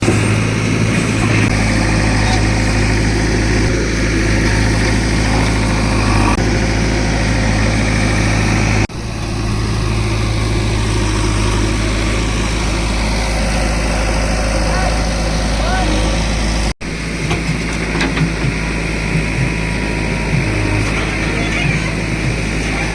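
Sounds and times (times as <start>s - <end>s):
diesel engine humming: 0.0s - 22.9s.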